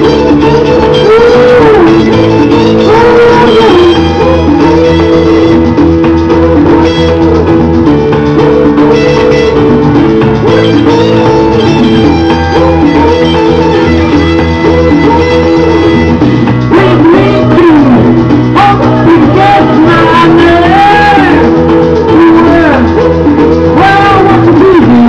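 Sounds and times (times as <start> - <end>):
drums: 0.0 - 25.0
guitar: 0.0 - 25.0
karaoke backing track: 0.0 - 25.0.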